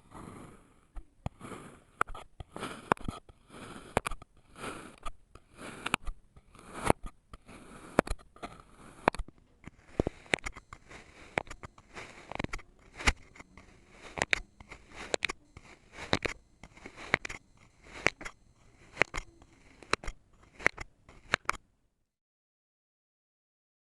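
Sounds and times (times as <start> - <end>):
soft gritty scraping: 0.0 - 21.6.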